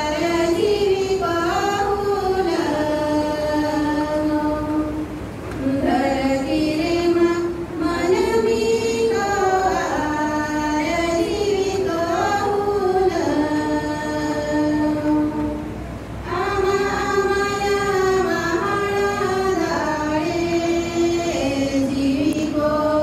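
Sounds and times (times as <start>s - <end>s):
group singing slow melody: 0.0s - 23.0s.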